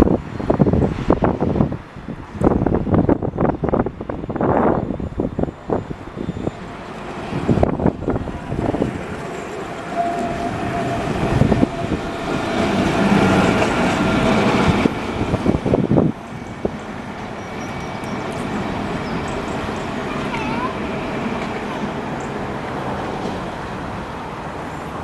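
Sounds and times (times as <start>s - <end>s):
rail vehicle running whine: 0.0s - 25.0s.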